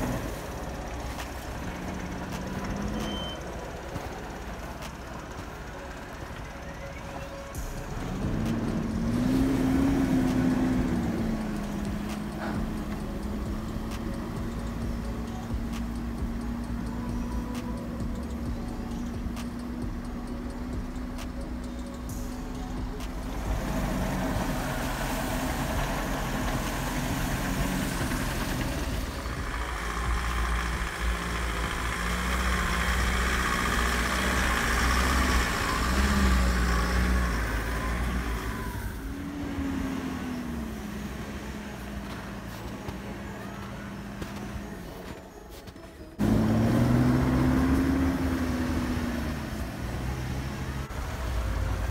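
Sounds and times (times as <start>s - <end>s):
off-road vehicle engine running: 0.0s - 51.9s.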